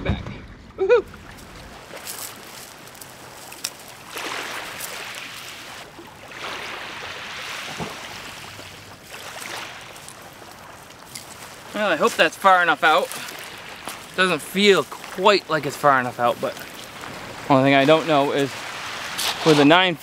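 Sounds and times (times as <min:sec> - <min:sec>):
waves lapping on gravel: 0:01.1 - 0:20.0.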